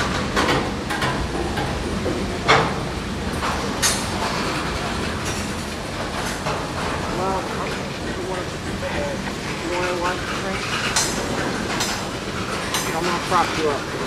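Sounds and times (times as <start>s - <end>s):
sharp train clanks: 0.0s - 14.0s
train rumbling on rails: 0.0s - 14.0s.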